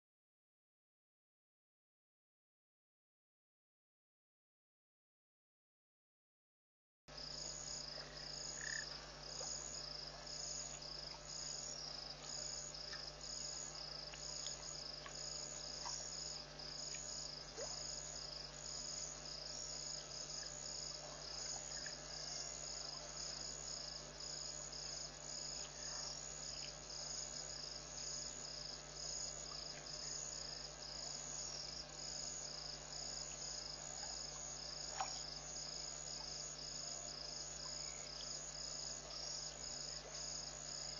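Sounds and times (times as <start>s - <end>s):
steady low hum: 7.1s - 40.9s
insects chirring: 7.2s - 40.9s.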